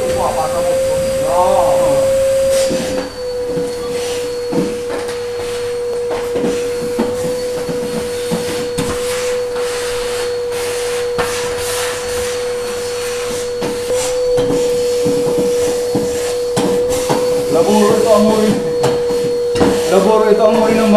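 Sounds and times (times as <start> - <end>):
vacuum cleaner running: 0.0 - 20.9.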